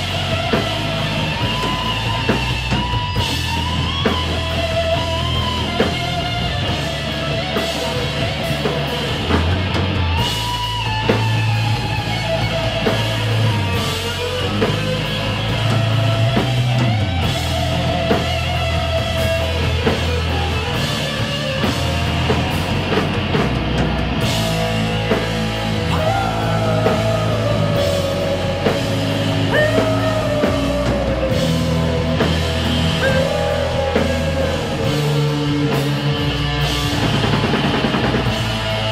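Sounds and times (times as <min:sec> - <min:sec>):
distorted electric guitar lead: 0:00.0 - 0:38.9
drums: 0:00.0 - 0:38.9.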